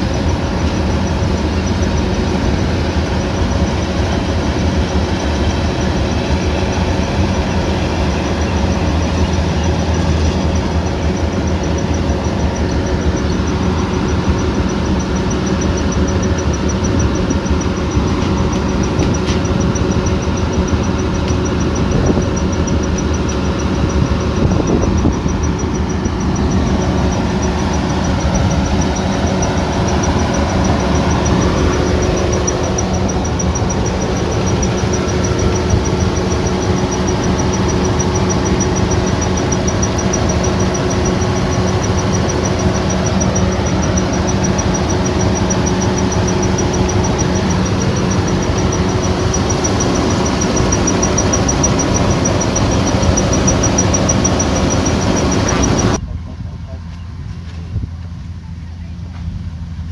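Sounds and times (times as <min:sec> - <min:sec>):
thin high whine: 0:00.0 - 0:56.8
combine harvester droning: 0:00.0 - 0:59.9.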